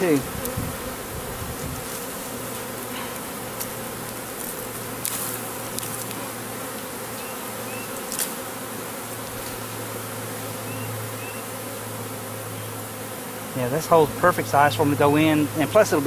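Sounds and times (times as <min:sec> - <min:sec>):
honeybee swarm humming: 0:00.0 - 0:16.0.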